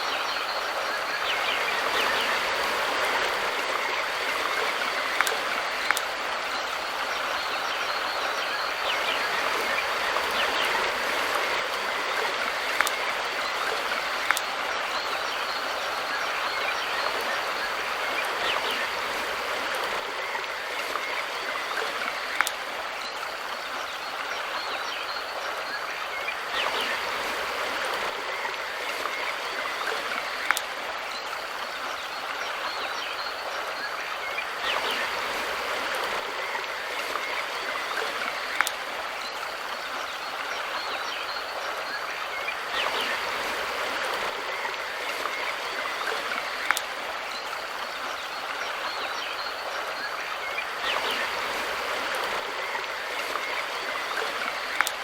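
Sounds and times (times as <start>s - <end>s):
mountain river water rushing: 0.0s - 55.0s.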